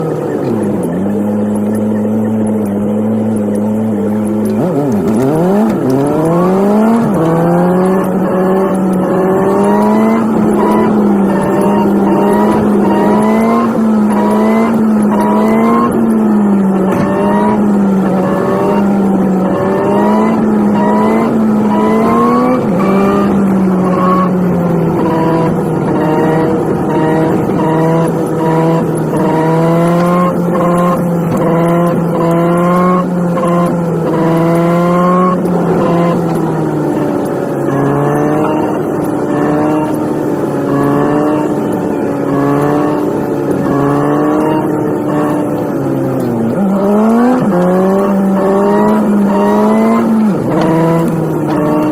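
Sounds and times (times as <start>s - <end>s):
sped-up car engine revving: 0.0s - 51.9s.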